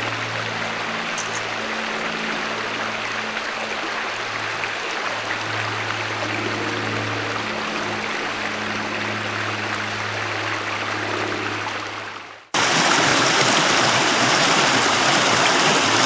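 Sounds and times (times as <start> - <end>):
creek rushing over stones: 0.0 - 16.0.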